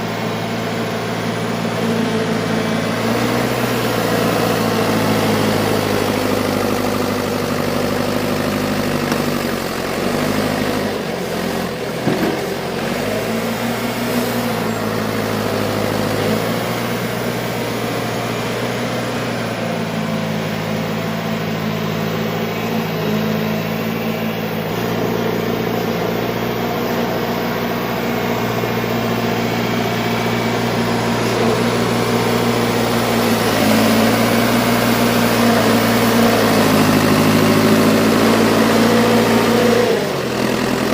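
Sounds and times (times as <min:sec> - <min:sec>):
loader engine running: 0:00.0 - 0:40.9.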